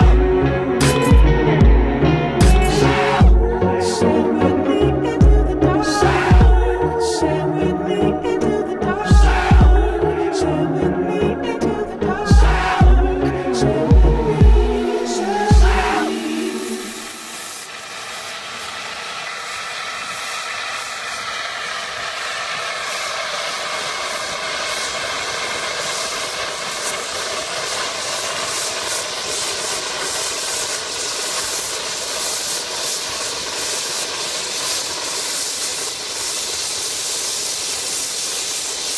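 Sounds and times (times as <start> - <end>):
steam hissing: 0.0 - 38.9.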